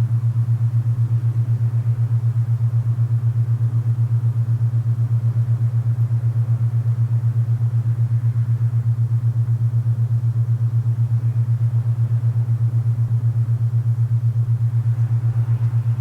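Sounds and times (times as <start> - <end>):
throbbing low hum: 0.0 - 16.0.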